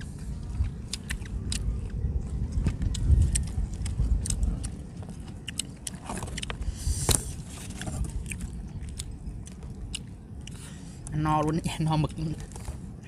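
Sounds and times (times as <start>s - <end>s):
wind rumbling on microphone: 0.0s - 13.0s
crisp chewing clicks: 0.6s - 6.6s, 7.7s - 12.4s.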